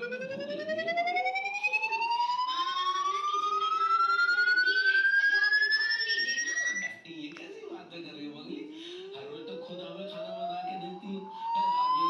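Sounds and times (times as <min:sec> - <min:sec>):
electronic tone sliding upward: 0:00.0 - 0:06.9, 0:09.0 - 0:12.0.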